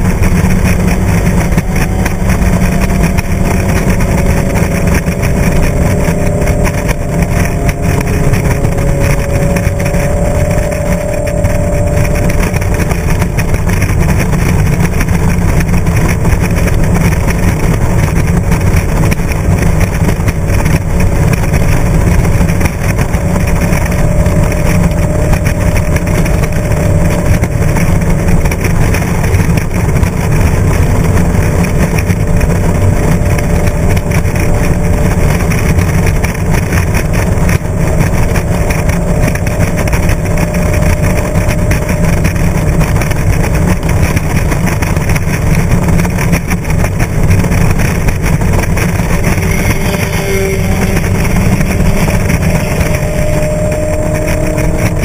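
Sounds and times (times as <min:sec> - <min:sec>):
engine drone: 0:00.0 - 0:55.0
wind and road noise: 0:00.0 - 0:55.0.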